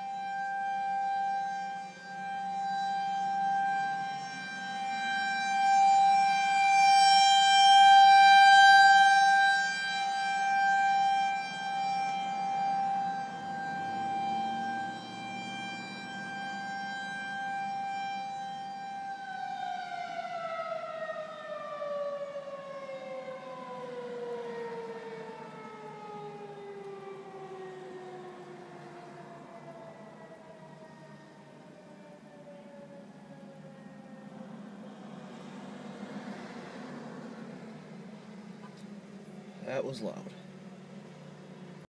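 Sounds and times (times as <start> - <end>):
warning siren wail: 0.0 - 41.9.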